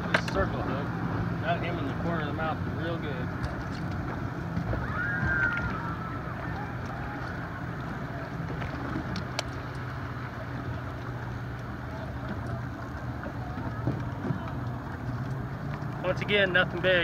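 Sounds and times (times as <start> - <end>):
boat motor humming: 0.0 - 17.0
water noise: 0.0 - 17.0
wind: 0.0 - 17.0.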